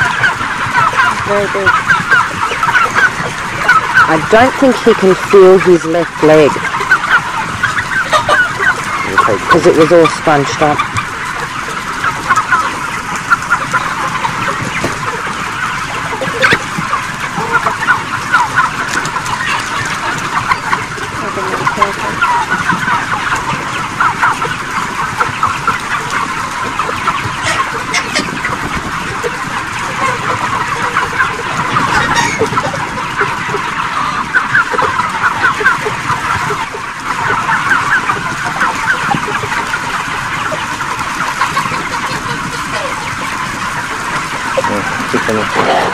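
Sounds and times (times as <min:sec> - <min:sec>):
chickens clucking and cheeping: 0:00.0 - 0:45.9.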